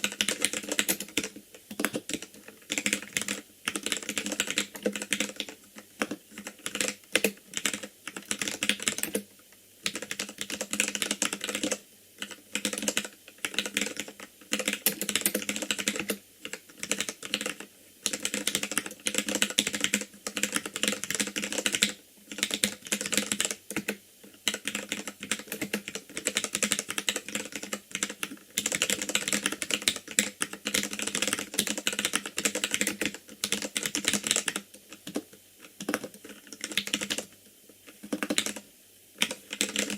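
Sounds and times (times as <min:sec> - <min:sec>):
mechanical keyboard typing: 0:00.0 - 0:38.6, 0:39.2 - 0:39.9.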